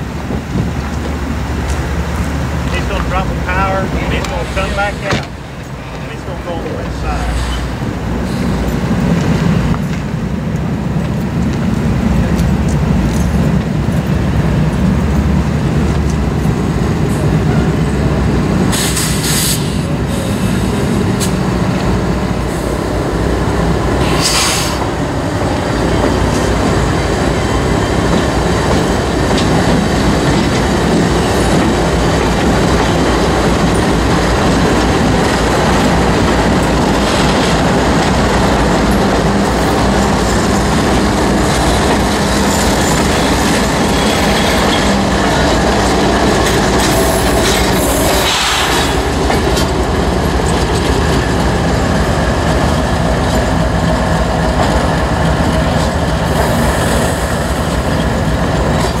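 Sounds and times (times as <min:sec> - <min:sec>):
diesel locomotive engines droning: 0:00.0 - 0:59.0
train wheels rolling on rails: 0:00.0 - 0:59.0.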